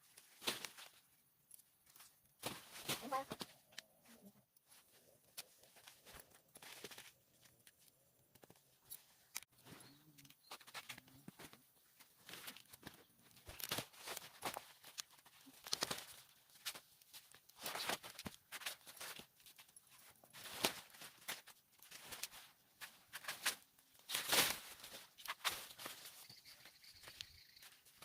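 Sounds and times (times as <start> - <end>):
plants rustling and crunching: 0.0 - 28.0.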